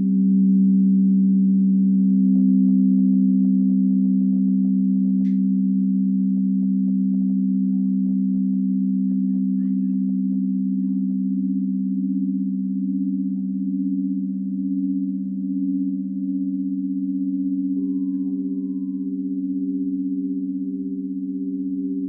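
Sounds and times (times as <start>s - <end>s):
crystal singing bowls ringing: 0.0s - 22.0s.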